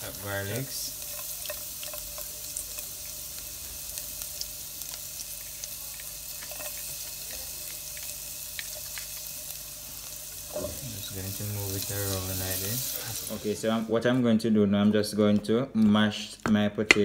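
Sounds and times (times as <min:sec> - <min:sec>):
garlic sizzling in butter: 0:00.0 - 0:14.2.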